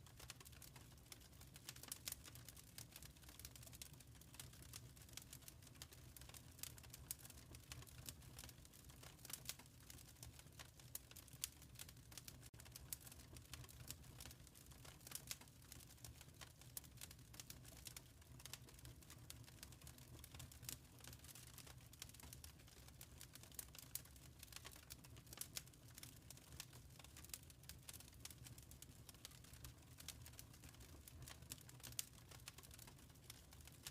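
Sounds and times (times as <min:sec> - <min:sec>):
fire crackling: 0:00.0 - 0:33.9.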